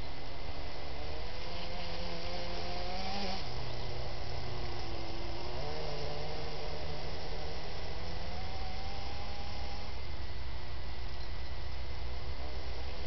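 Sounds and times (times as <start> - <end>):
electric motors whining under load: 0.0 - 13.0.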